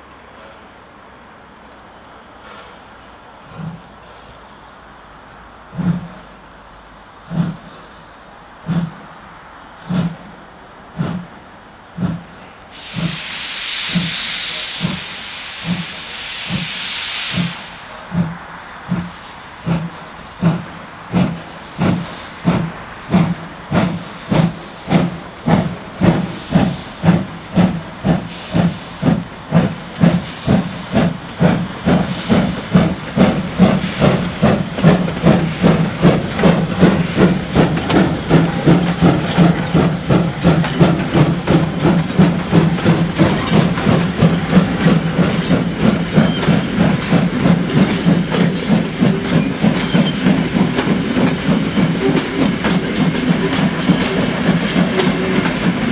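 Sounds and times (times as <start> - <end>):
steam locomotive chuffing: 2.3 - 55.9
steam hissing: 5.8 - 9.0, 12.0 - 55.9.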